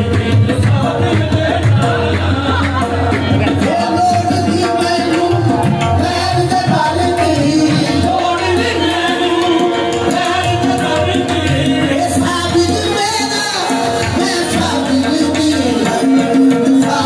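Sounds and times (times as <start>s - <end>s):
people singing: 0.0s - 17.0s
tabla drumming: 0.0s - 17.0s.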